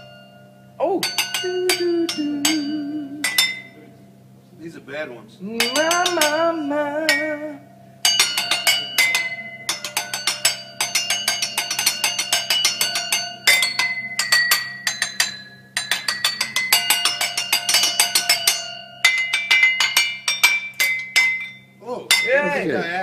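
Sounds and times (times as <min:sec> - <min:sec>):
drumsticks striking wine glasses: 0:01.0 - 0:03.9, 0:05.6 - 0:22.6.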